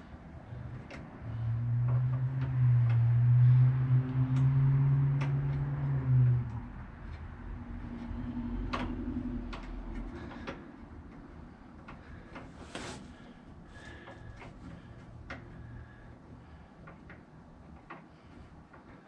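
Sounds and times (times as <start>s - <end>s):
low hum: 0.0s - 16.7s.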